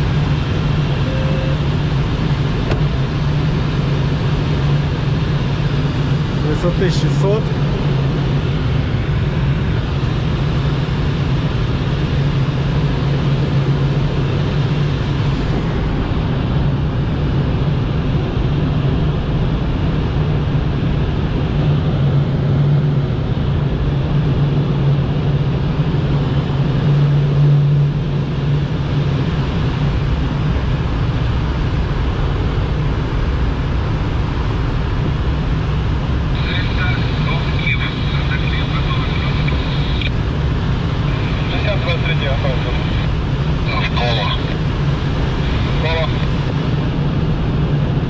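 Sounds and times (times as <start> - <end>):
airflow rushing around cockpit: 0.0 - 48.0
low hum: 0.0 - 48.0.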